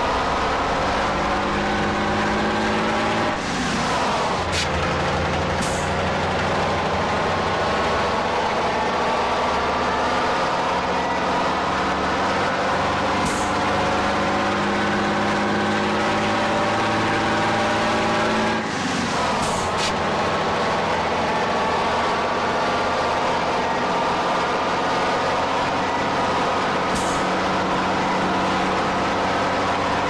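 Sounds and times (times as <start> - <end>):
truck engine driving: 0.0 - 30.0.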